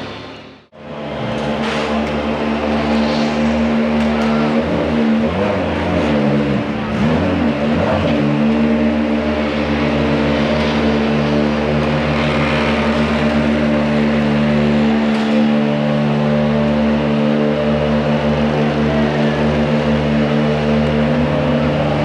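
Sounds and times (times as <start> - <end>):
race car engines running: 0.0 - 22.0
race cars passing by: 0.0 - 22.0.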